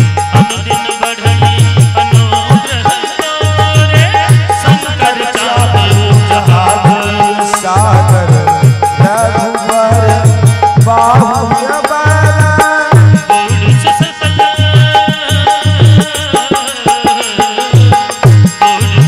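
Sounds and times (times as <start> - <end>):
hand drum beat: 0.0 - 19.0
harmonium melody: 0.0 - 19.0.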